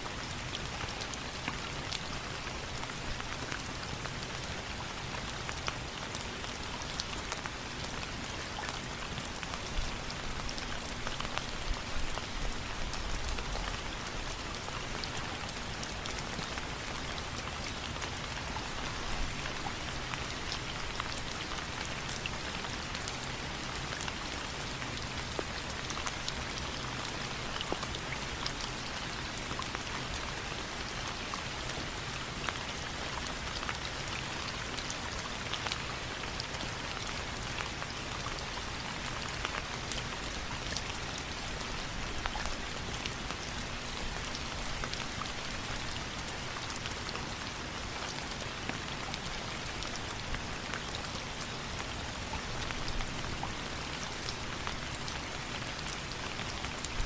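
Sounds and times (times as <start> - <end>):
small sharp rain ticks: 0.0 - 57.0.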